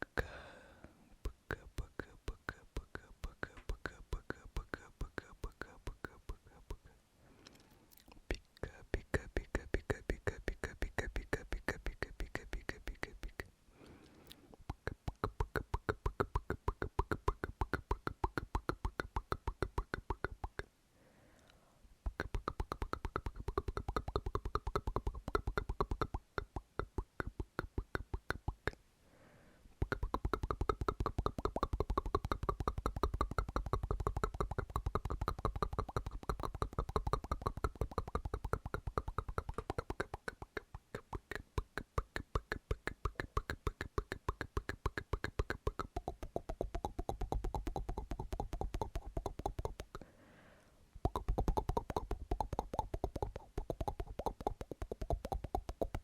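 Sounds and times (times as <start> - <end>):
mouth pops with lips and tongue: 1.2 - 6.9, 8.0 - 13.4, 14.6 - 20.6, 22.0 - 28.8, 29.8 - 50.0, 51.0 - 56.0.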